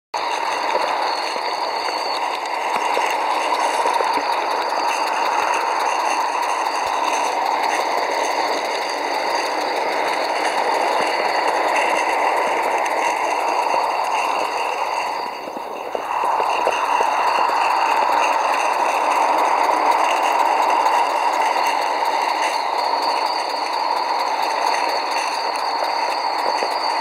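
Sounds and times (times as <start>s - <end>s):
steam locomotive hissing whir: 0.2s - 27.0s.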